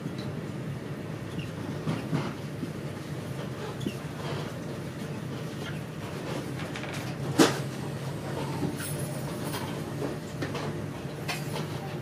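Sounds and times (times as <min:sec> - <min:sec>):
train hum and rumble: 0:00.0 - 0:12.0.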